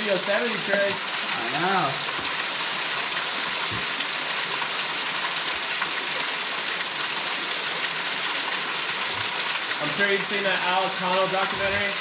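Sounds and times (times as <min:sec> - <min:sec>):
small waterfall splashing: 0:00.0 - 0:12.0.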